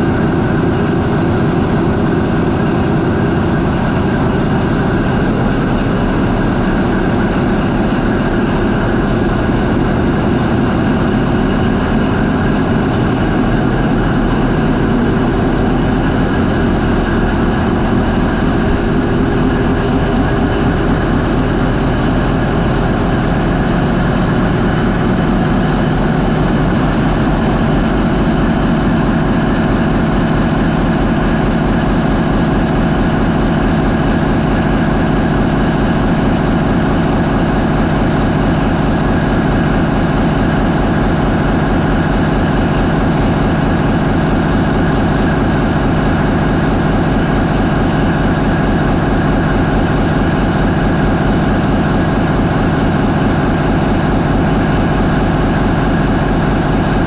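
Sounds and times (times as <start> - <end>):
marine diesel engine running: 0.0 - 57.0.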